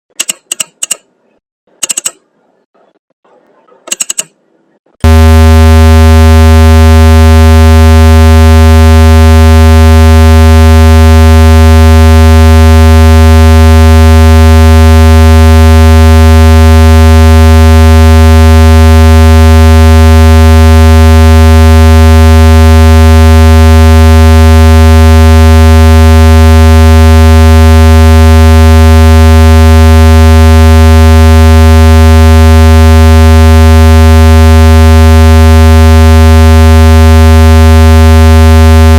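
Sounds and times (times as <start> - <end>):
low synthesizer buzzing tone: 5.0 - 38.9.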